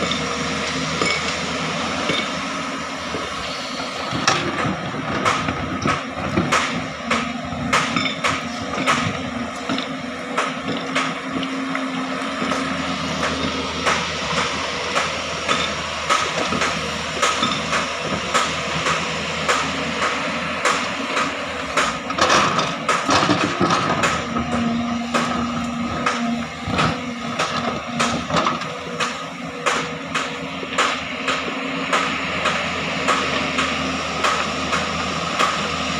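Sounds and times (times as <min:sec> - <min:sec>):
excavator diesel engine: 0:00.0 - 0:35.9.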